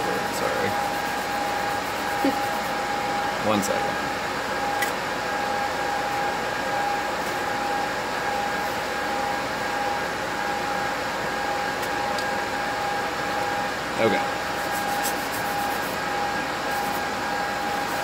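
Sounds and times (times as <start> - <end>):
motor-driven fan whirring: 0.0 - 18.0.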